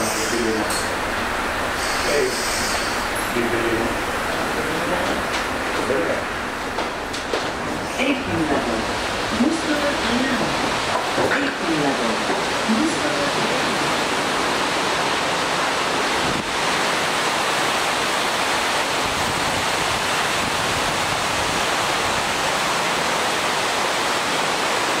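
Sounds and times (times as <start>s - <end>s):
rush of falling water: 0.0s - 25.0s.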